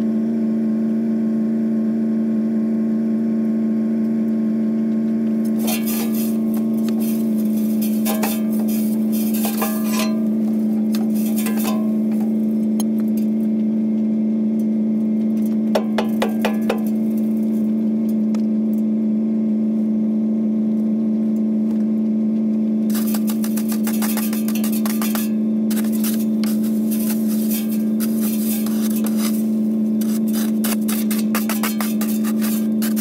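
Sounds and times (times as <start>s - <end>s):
vehicle engine idling: 4.8s - 33.0s.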